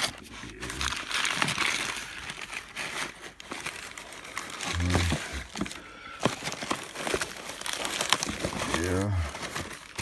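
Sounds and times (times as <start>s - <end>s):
plastic and paper crinkling: 0.0s - 10.0s.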